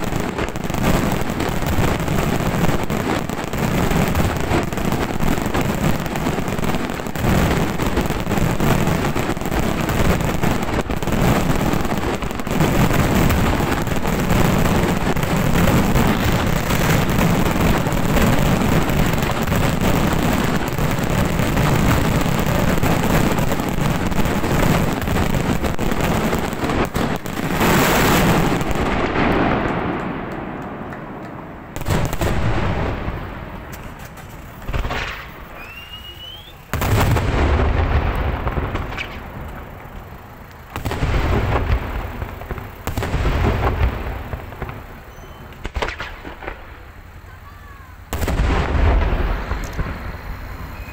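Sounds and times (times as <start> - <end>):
fireworks bursts and crackling: 0.0 - 50.9.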